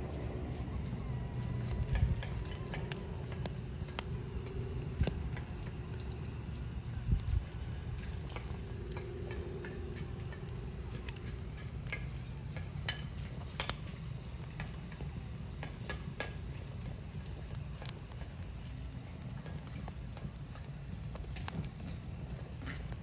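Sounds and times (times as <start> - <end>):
fire crackling and sizzling: 0.0 - 23.0
fire low rush: 0.0 - 23.0.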